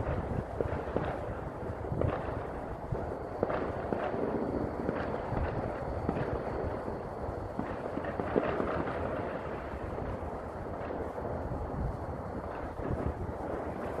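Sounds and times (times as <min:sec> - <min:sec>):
distant fireworks bangs and pops: 0:00.0 - 0:14.0
steady noisy background: 0:00.0 - 0:14.0.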